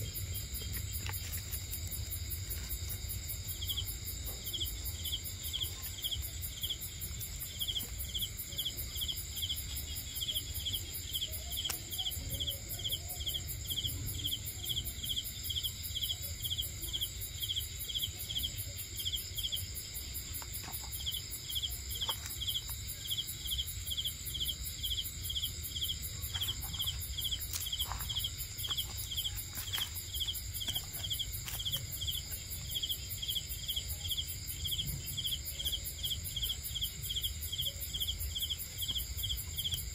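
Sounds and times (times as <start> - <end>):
cricket chirping: 0.0 - 39.9
insects trilling: 0.0 - 39.9.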